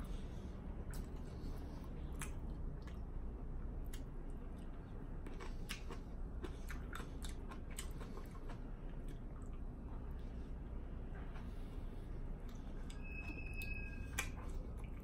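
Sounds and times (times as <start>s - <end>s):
person chewing a sandwich: 0.0s - 15.0s.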